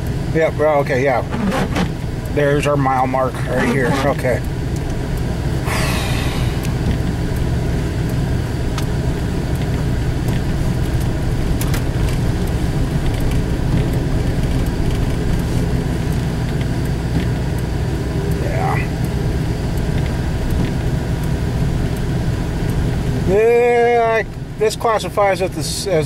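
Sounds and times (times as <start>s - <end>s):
vehicle engine and tyres rumbling: 0.0s - 26.0s.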